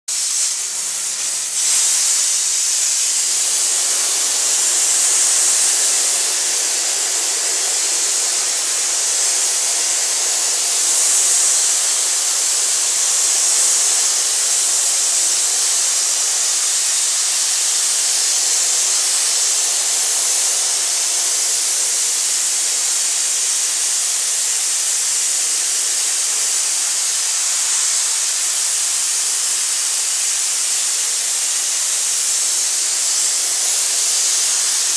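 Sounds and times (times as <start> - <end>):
abrasive blasting nozzle hissing: 0.1 - 34.9.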